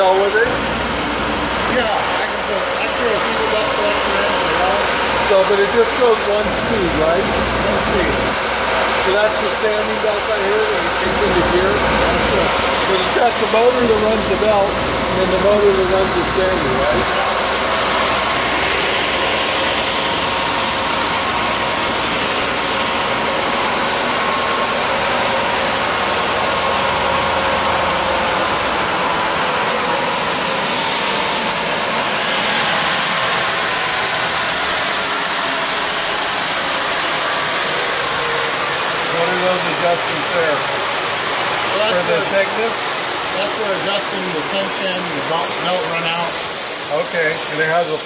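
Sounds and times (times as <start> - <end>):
belt sander whirring: 0.0 - 48.0.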